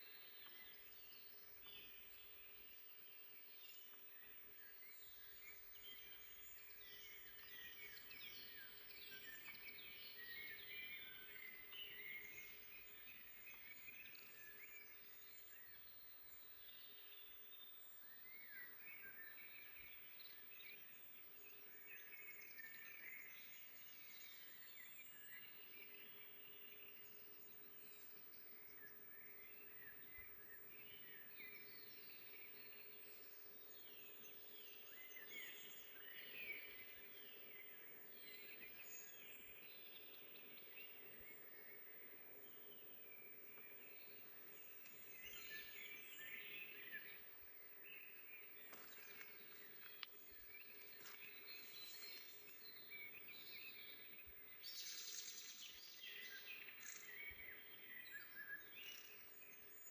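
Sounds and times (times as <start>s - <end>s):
birds chirping and trilling: 0.0s - 59.9s
faint steady hum: 0.0s - 59.9s.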